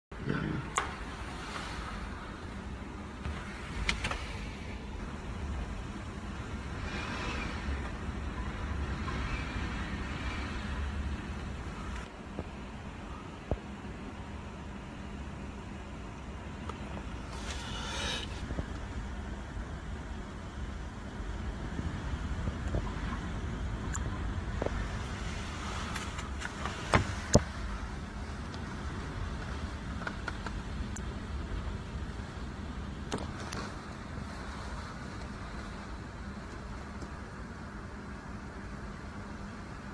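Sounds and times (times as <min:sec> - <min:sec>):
strong wind gusts: 0:00.2 - 0:13.8, 0:15.9 - 0:36.7.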